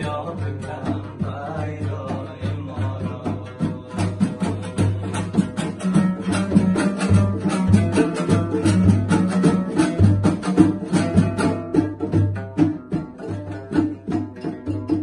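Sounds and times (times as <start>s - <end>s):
hand drum: 0.0s - 15.0s
lute strummed fast: 0.0s - 15.0s.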